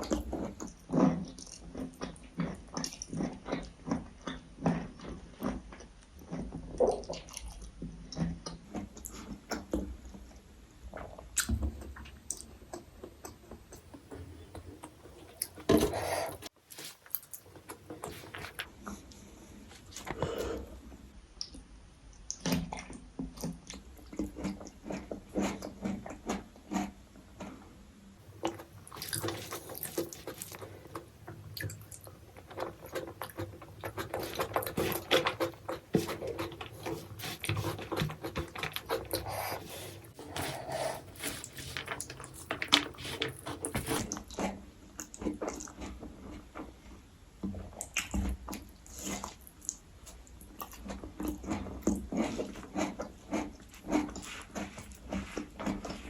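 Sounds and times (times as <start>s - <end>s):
chewing and mouth sounds: 0.0s - 20.7s, 21.4s - 27.5s, 28.2s - 46.6s, 47.4s - 56.0s.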